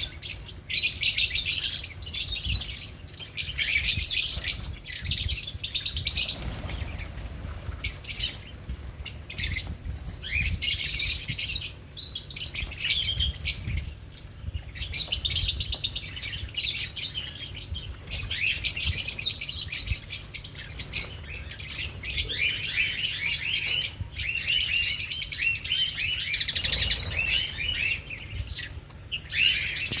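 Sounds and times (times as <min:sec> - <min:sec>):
lovebirds chattering: 0:00.0 - 0:30.0.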